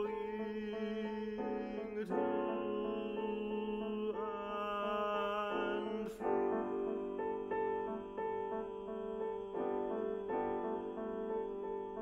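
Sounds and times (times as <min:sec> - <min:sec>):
piano accompaniment: 0:00.0 - 0:12.0
tenor singing: 0:00.0 - 0:12.0.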